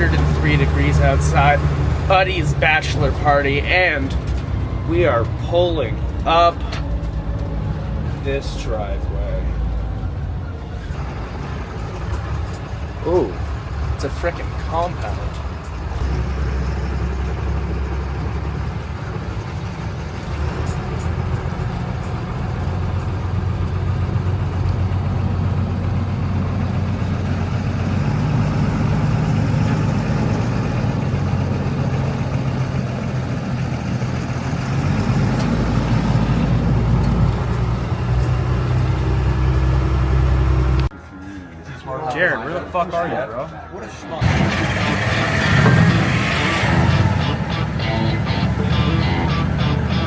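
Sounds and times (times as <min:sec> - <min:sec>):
truck diesel engine driving: 0:00.0 - 0:41.6, 0:42.5 - 0:50.0.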